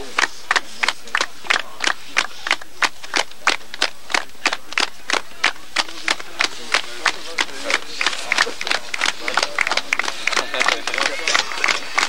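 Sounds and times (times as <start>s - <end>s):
faint voices: 0.0s - 12.0s
group clapping in unison: 0.0s - 12.0s.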